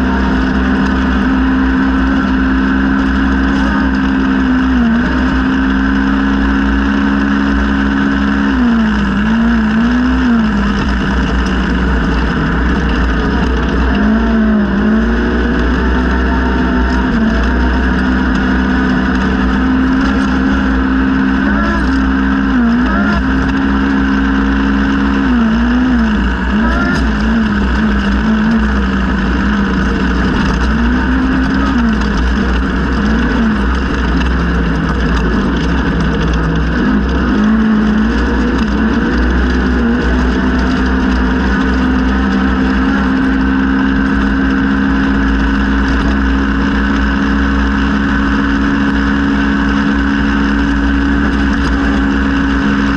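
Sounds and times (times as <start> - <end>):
engine revving at high revs: 0.0 - 52.9.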